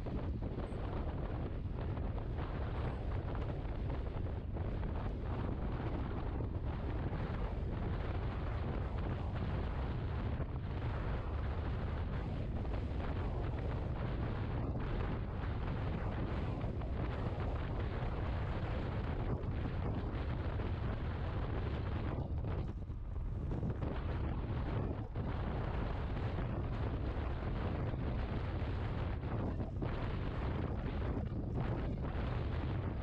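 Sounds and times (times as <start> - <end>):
wind roar on microphone: 0.0 - 33.0.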